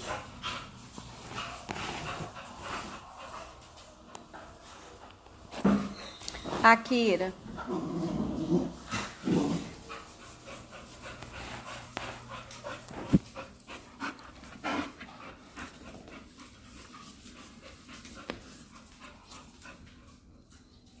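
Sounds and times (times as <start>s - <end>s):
dog panting: 0.0s - 5.5s, 8.6s - 20.7s.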